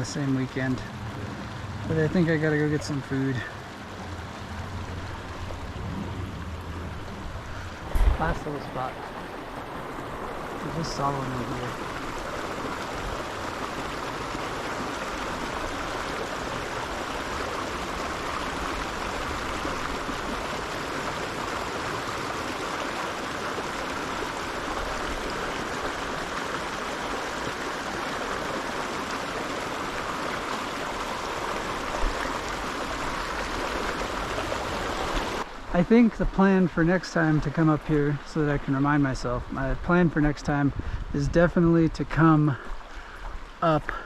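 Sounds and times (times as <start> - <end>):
mountain creek flowing: 0.0 - 44.0.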